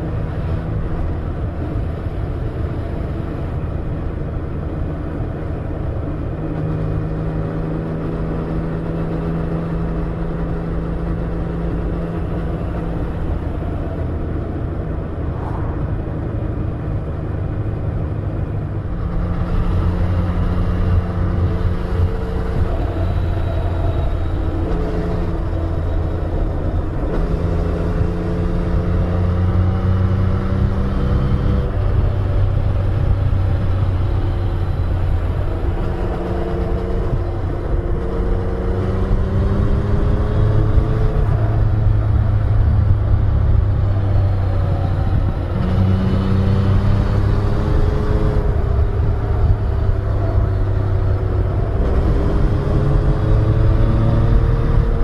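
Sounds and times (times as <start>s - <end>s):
road and wind rumble: 0.0s - 55.0s.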